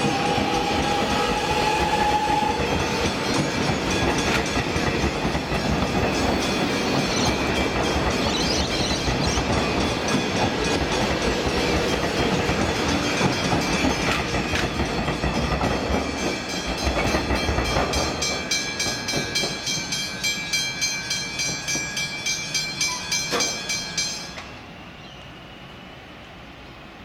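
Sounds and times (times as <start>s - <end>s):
wheels clacking on rails: 0.0s - 24.6s
level crossing warning bells: 0.0s - 24.7s
electric train passing: 0.0s - 27.0s.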